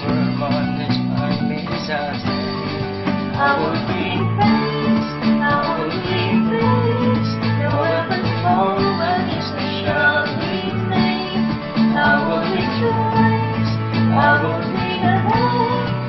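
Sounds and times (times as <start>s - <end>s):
acoustic guitars: 0.0s - 16.0s
keyboard: 0.0s - 16.0s
people singing worship song: 2.4s - 16.0s.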